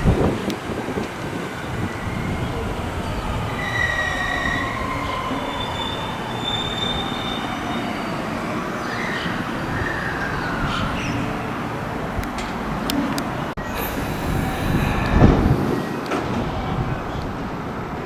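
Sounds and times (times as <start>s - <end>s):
rail noise with squealing: 0.0s - 18.0s
train motors whining: 1.1s - 15.8s.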